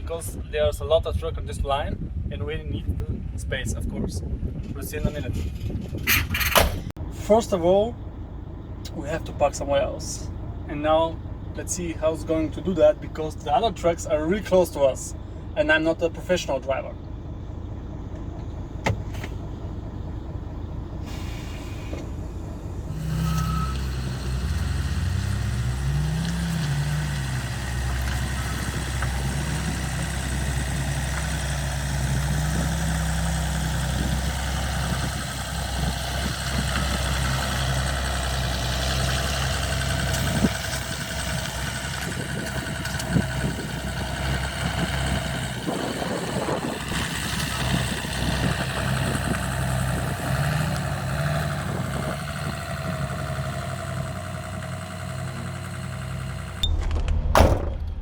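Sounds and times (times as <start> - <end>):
truck diesel engine running: 5.5 - 58.0.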